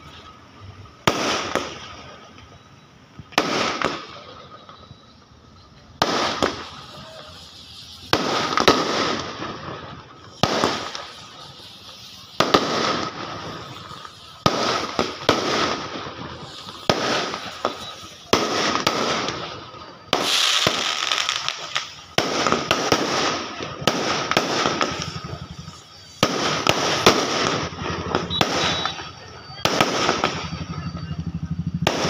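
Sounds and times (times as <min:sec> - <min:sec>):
firework shells bursting: 0:00.0 - 0:32.0.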